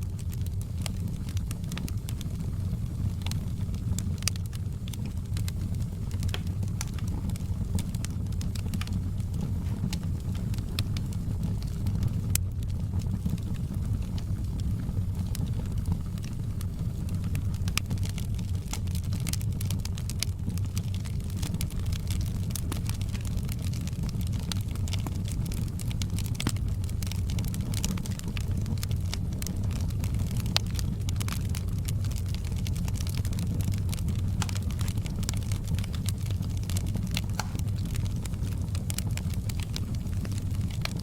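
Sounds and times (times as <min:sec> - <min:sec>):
fire crackling and popping: 0:00.0 - 0:41.0
low rumble of flames: 0:00.0 - 0:41.0.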